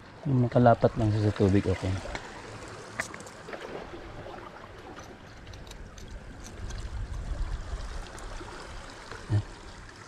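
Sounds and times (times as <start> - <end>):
water lapping among rocks: 1.1 - 10.0.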